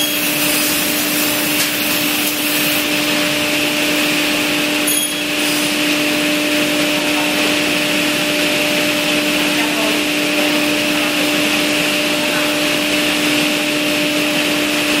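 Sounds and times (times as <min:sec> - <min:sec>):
panel saw humming and whining: 0:00.0 - 0:15.0.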